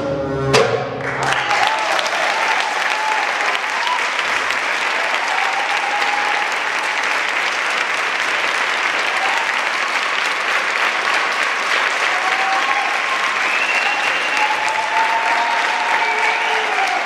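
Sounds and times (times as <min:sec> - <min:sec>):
audience applauding: 0:01.0 - 0:17.0.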